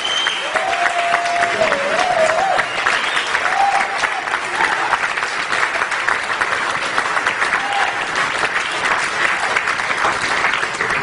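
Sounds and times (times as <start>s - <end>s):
crowd clapping: 0.0s - 11.0s.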